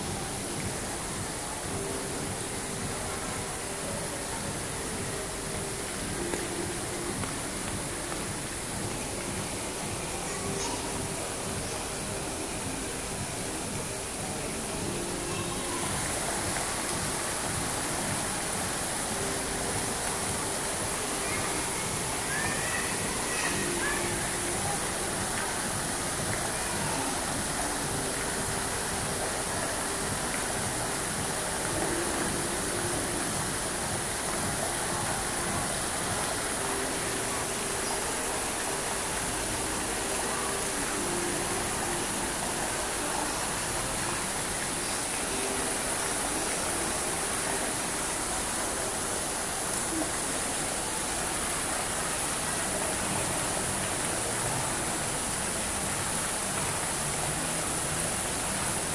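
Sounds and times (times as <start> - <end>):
fountain water splashing: 0.0 - 58.9.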